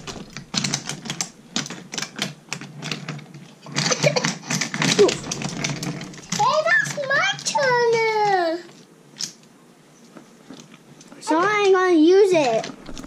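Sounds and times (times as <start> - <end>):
wooden toy trains clattering: 0.0 - 9.4, 10.1 - 13.0.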